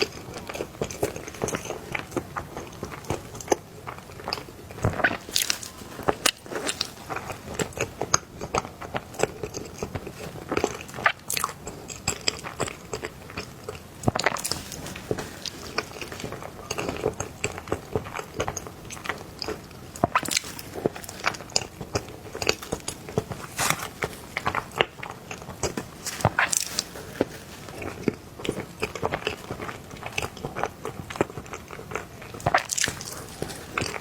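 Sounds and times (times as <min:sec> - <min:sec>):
person chewing cake: 0:00.0 - 0:34.0.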